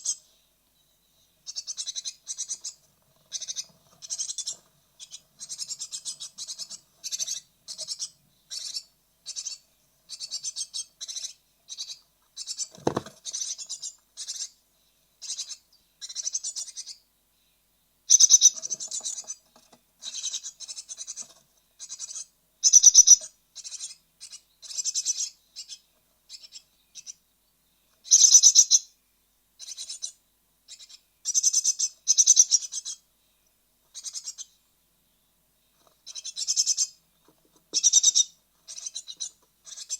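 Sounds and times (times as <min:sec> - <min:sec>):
nestlings chirping: 0:00.0 - 0:14.6, 0:15.2 - 0:17.0, 0:18.1 - 0:27.2, 0:27.9 - 0:29.0, 0:29.6 - 0:33.1, 0:33.9 - 0:34.6, 0:35.7 - 0:39.9.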